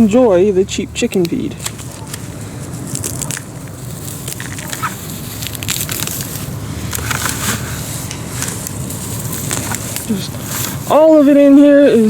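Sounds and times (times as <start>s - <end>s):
weeds rustling and snapping: 0.0s - 12.0s.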